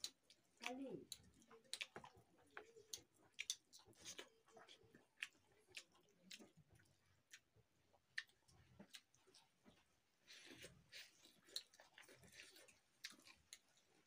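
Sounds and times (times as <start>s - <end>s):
chewing sounds: 0.0s - 14.0s
fingers mixing food on a plate: 0.0s - 14.0s.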